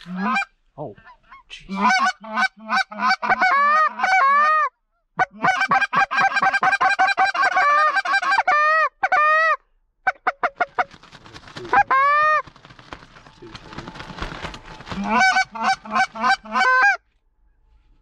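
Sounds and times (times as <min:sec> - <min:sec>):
geese honking and clucking: 0:00.0 - 0:17.1.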